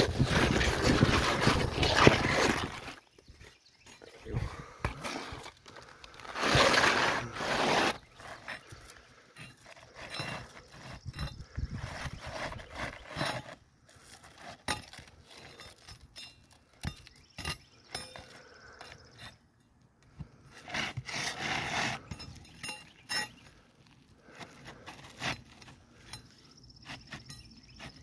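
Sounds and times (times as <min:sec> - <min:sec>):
pry bar scraping under shingles: 0:00.0 - 0:28.0.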